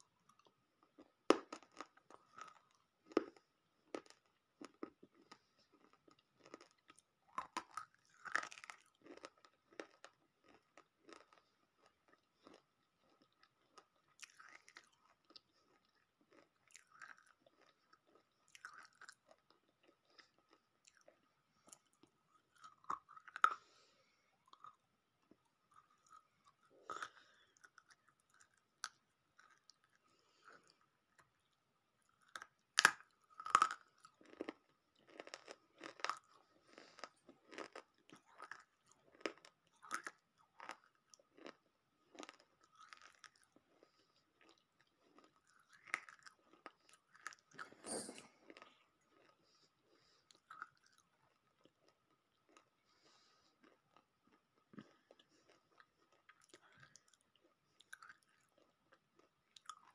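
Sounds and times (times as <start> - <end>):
crunching and chewing clay: 0.0 - 59.9.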